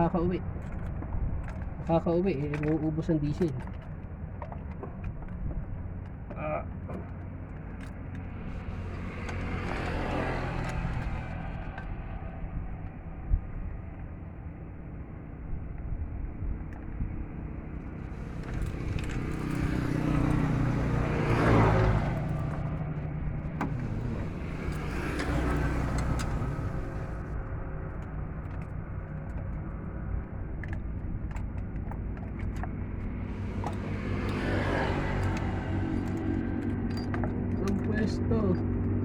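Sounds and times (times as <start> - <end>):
steady engine hum: 0.0 - 39.0
vehicles passing on road: 0.0 - 39.0
small metallic clicks: 0.6 - 13.0, 17.8 - 38.1.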